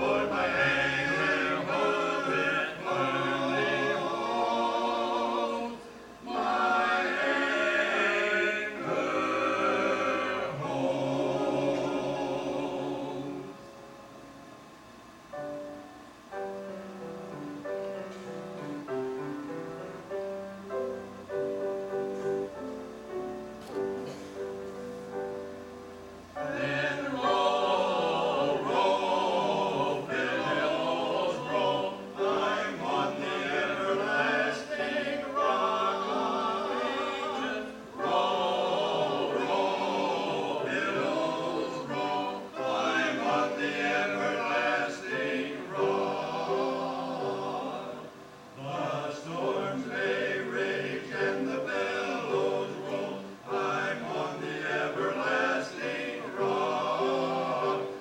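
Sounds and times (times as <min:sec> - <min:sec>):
choir singing with vibrato: 0:00.0 - 0:14.8, 0:23.7 - 0:58.0
piano chords: 0:00.0 - 0:58.0.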